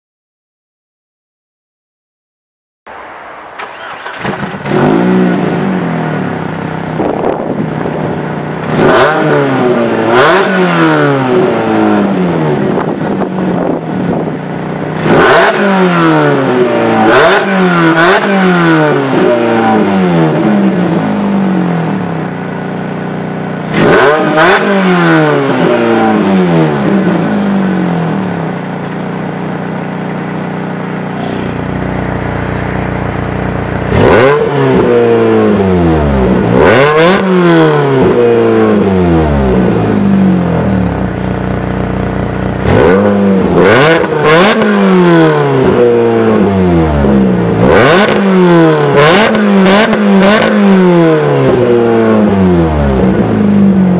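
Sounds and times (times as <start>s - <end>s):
car engine revving: 3.6s - 22.6s, 23.5s - 53.9s.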